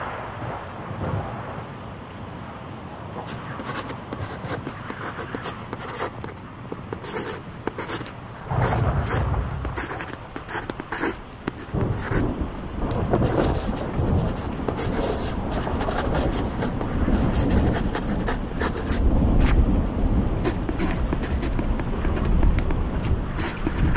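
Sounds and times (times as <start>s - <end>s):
pencil scratching on paper: 3.3s - 12.3s, 12.9s - 19.6s, 20.4s - 23.9s.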